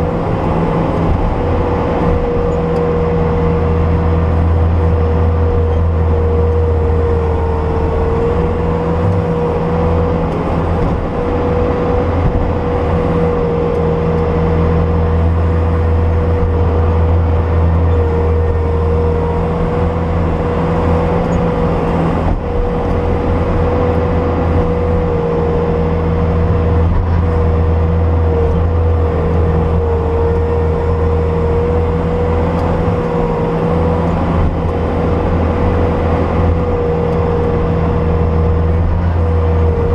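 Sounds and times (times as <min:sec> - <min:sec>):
skid steer diesel engine: 0:00.0 - 0:39.9.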